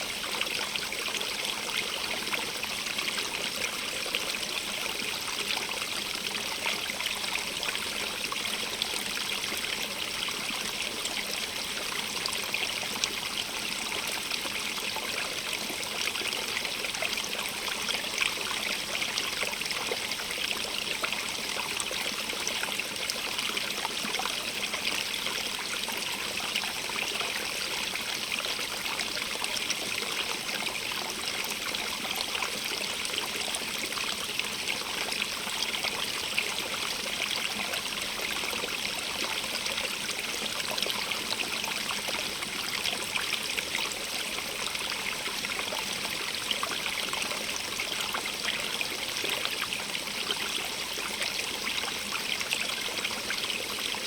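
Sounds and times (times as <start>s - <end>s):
stream running over stones: 0.0s - 54.0s.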